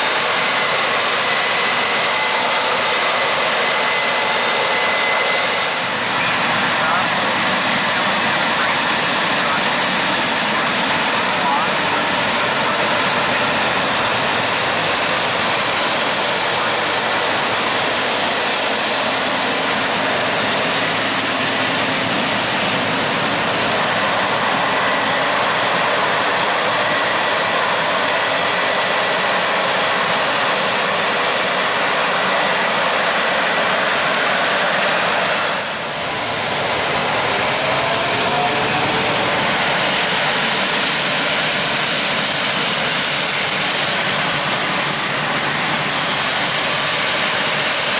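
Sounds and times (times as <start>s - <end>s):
combine harvester running: 0.0s - 47.9s
faint high machine whine: 0.0s - 47.9s.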